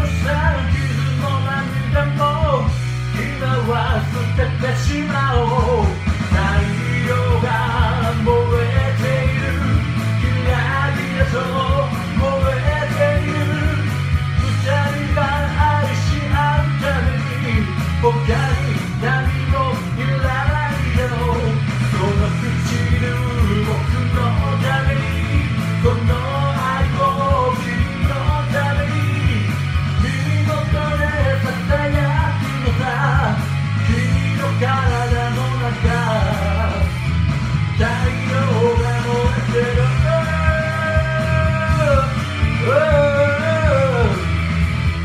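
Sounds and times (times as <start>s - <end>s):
man singing: 0.0s - 44.4s
rock band backing track: 0.0s - 45.0s.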